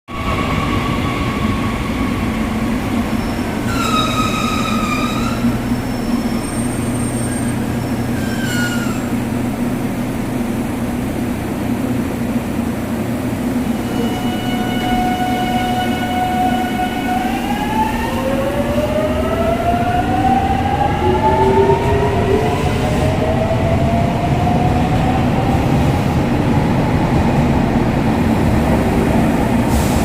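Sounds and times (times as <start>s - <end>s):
electric train rumbling: 0.1s - 30.0s.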